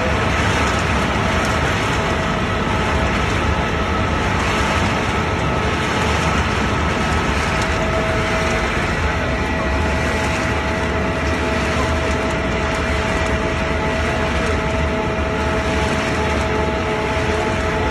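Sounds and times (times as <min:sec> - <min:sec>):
industrial machinery din: 0:00.0 - 0:17.9
machinery whining tones: 0:00.0 - 0:17.9.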